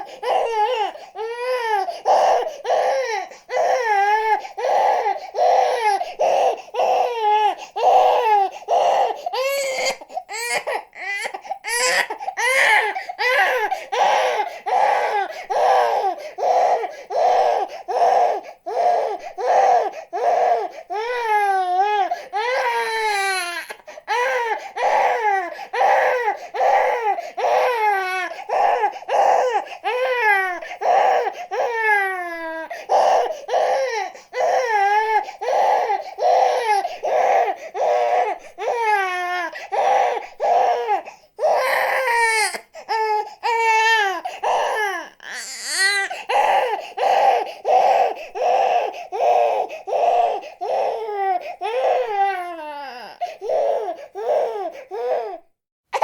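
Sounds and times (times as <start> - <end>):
infant crying: 0.0 - 56.0.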